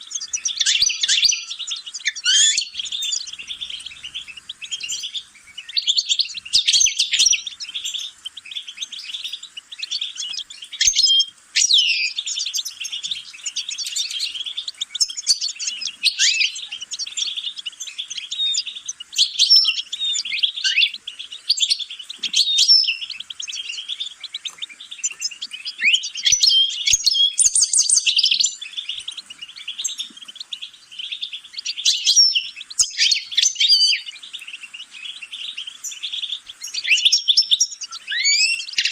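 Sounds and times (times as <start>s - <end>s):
goldfinch twittering song: 0.0s - 38.9s.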